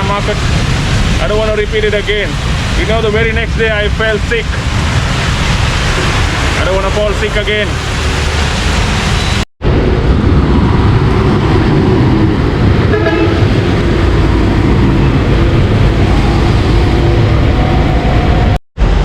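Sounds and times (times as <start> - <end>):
heavy rain: 0.0 - 19.0
traffic on wet road: 0.0 - 19.0.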